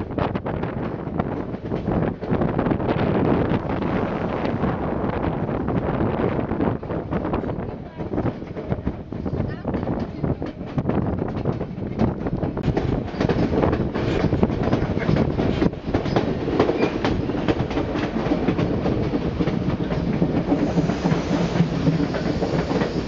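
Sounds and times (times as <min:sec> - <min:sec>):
train wheels clattering on rails: 0:00.4 - 0:02.8, 0:06.7 - 0:23.0.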